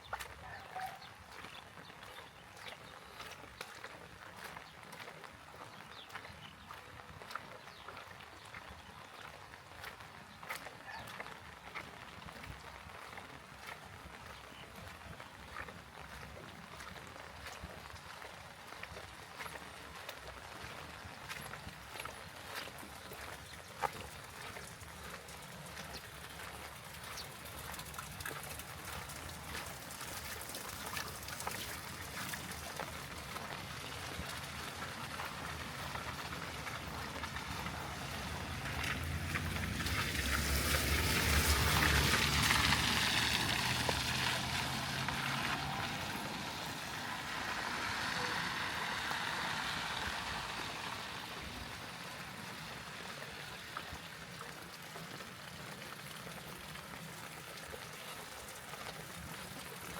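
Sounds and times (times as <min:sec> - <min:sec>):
running water: 0:00.1 - 0:59.9
steady rain: 0:01.1 - 0:59.9.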